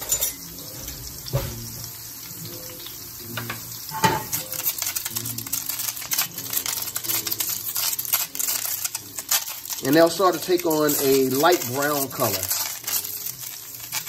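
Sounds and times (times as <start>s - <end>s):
mushrooms sizzling in a pan: 0.0s - 14.0s.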